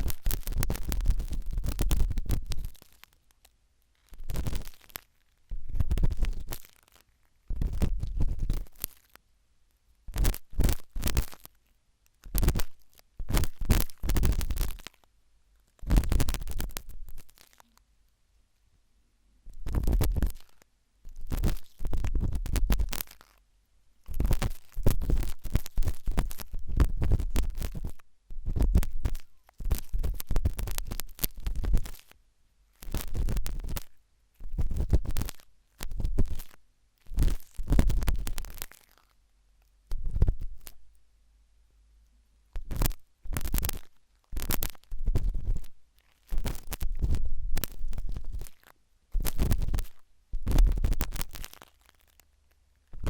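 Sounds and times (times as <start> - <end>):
toothpick scratching in ear: 0.0 - 3.1, 4.0 - 9.2, 10.1 - 11.6, 12.2 - 15.0, 15.8 - 17.8, 19.5 - 23.4, 24.1 - 32.2, 32.8 - 39.1, 39.9 - 40.8, 42.6 - 52.2.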